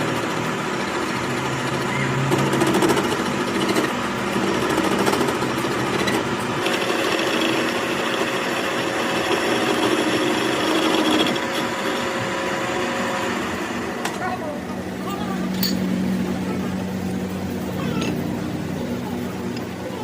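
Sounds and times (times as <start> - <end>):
power tool running: 0.0 - 20.0.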